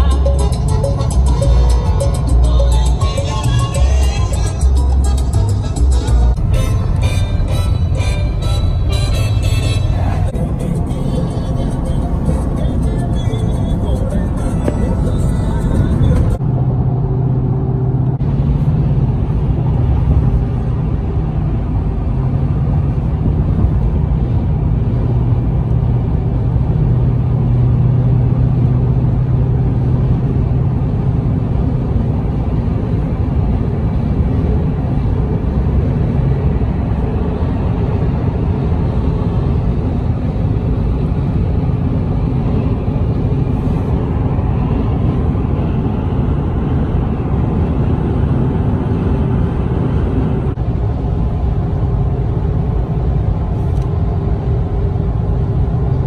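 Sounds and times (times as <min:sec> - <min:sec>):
tyre and engine rumble in car: 0:00.0 - 0:56.0.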